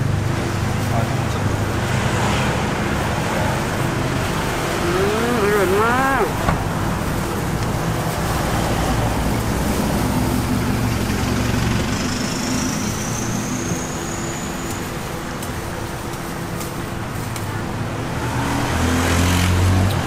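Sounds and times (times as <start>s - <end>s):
road traffic noise: 0.0s - 20.0s
vehicle engine humming: 0.0s - 20.0s.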